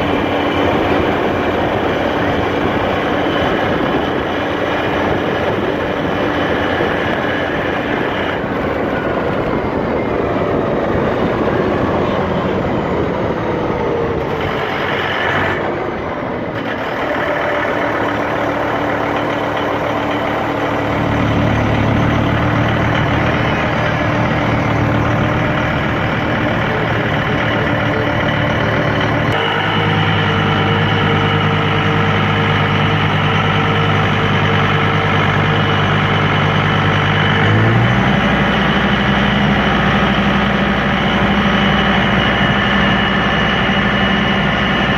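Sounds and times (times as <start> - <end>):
deep steady hum: 0.0 - 44.9
tractor running: 0.0 - 44.9.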